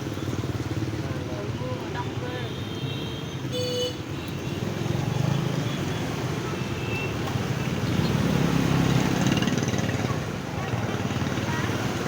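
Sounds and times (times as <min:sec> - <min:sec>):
motorbike traffic: 0:00.0 - 0:12.0.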